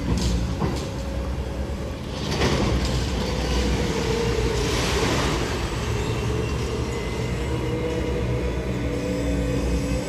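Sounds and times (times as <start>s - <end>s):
demolition machinery engines rumbling: 0.0s - 10.0s
road traffic passing: 0.0s - 10.0s.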